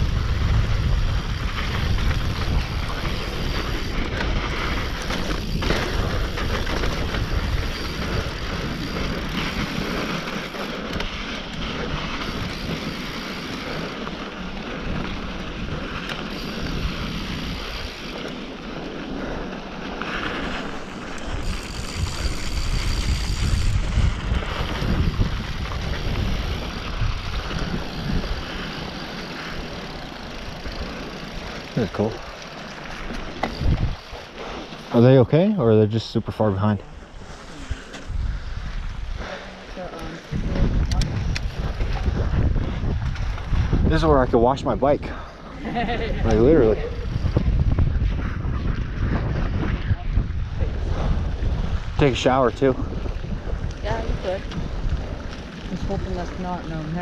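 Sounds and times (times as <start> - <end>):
bike tyres rumbling and rattling: 0.0 - 57.0
wind rushing over microphone: 0.0 - 57.0.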